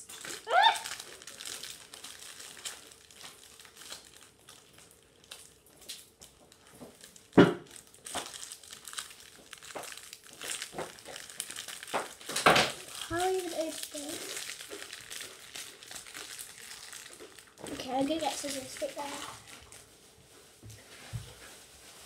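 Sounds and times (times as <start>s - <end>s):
plastic packet crinkling: 0.0s - 20.4s.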